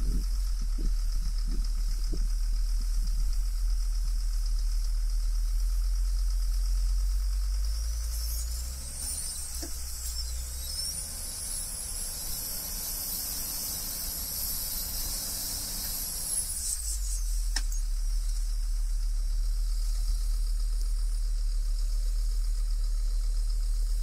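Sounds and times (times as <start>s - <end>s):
diesel engine revving with whine: 0.0s - 24.0s
engine idle rumble: 0.0s - 24.0s.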